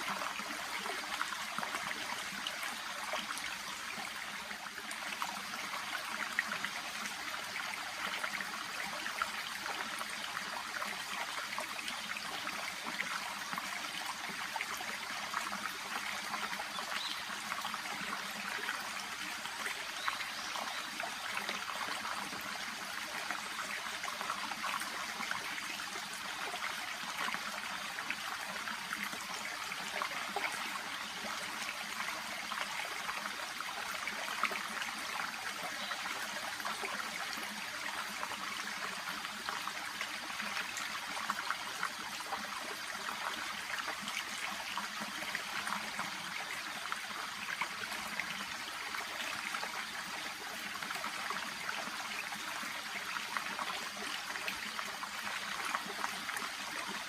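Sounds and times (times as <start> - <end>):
brook babbling: 0.0 - 57.0.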